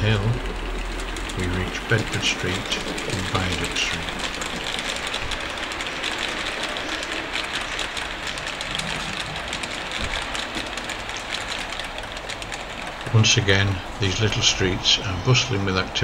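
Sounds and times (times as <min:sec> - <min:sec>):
fast uneven clicking: 0:00.0 - 0:16.0
train rumbling on track: 0:00.0 - 0:16.0.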